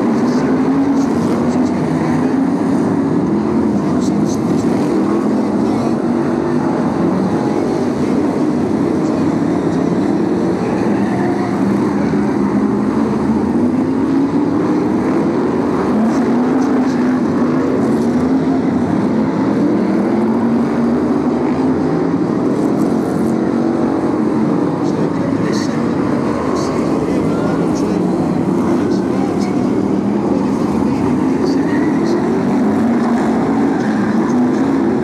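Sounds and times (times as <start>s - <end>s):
racing car engines: 0.0s - 35.0s.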